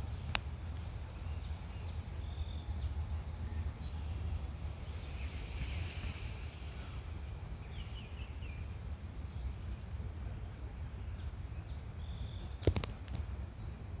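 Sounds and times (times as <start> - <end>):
faint songbird chirps: 0.0 - 14.0.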